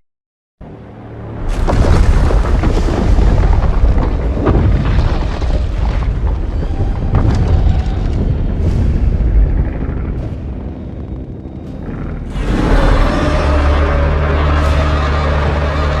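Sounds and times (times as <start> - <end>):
deep rumbling monster roar: 1.4 - 16.0.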